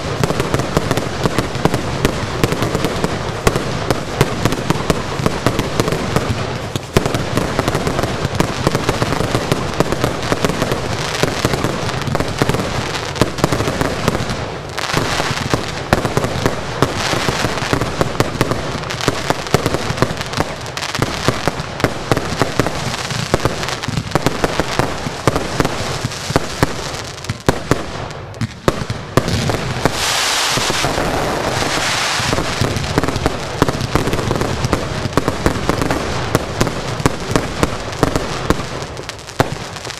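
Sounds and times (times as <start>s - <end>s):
fireworks bangs and cracks: 0.0s - 39.9s
fireworks hissing crackle: 0.0s - 39.9s.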